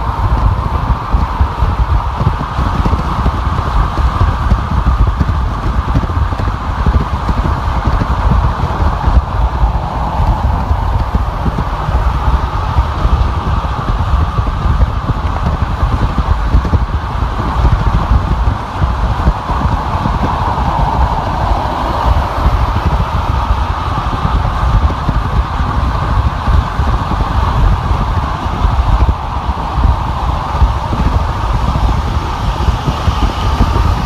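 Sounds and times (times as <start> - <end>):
car road noise rumble: 0.0 - 34.0
wind rushing: 0.0 - 34.0.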